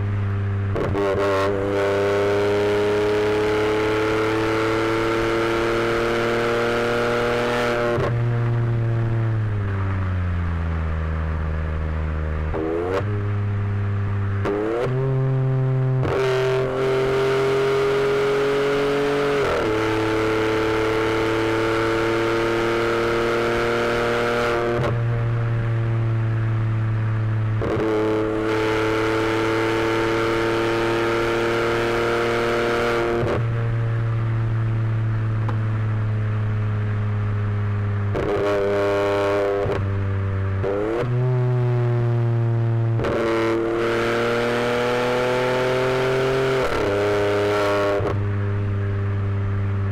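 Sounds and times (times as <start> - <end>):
car engine and exhaust droning: 0.0 - 49.9.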